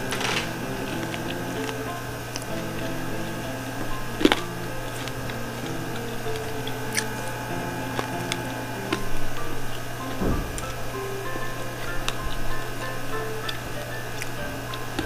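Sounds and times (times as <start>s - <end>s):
crunchy chewing clicks: 0.0s - 15.0s
soft instrumental music: 0.0s - 15.0s.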